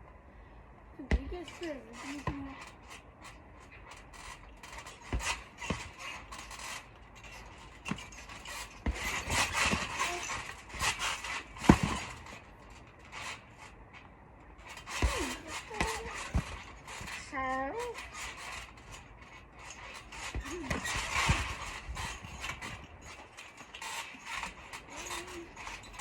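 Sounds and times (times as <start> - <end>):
trampoline springs creaking: 0.1 - 26.0
bodies thumping on trampoline: 1.0 - 26.0.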